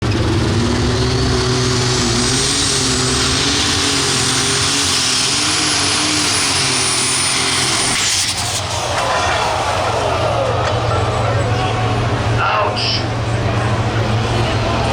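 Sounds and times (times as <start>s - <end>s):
engine running at full throttle: 0.0s - 14.9s.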